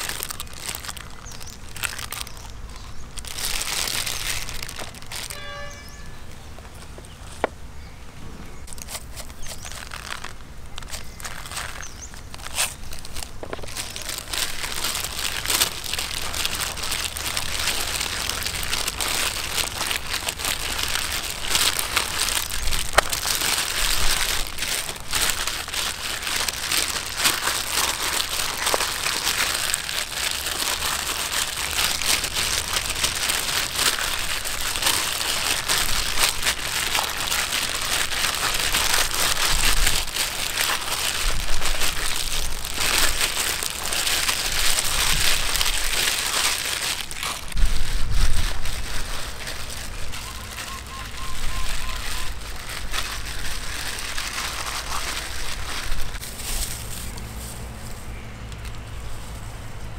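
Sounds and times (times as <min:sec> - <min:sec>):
plastic bag crinkling: 0:00.0 - 0:06.2, 0:08.6 - 0:57.7.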